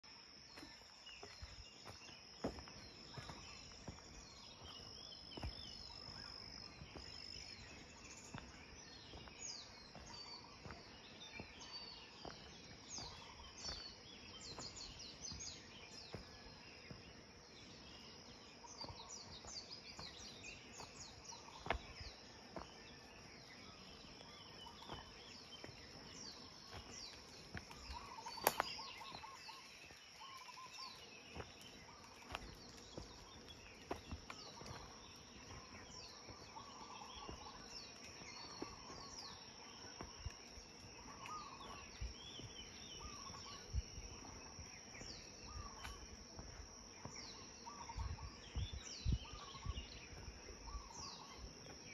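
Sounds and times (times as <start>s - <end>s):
small birds chirping: 0.0s - 51.9s
footsteps on dirt trail: 0.1s - 51.9s.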